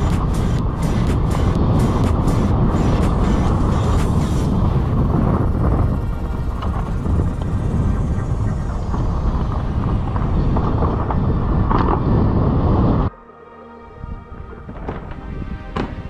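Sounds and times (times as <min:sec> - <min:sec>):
wind rushing over microphone: 0:00.0 - 0:13.1, 0:14.0 - 0:16.0.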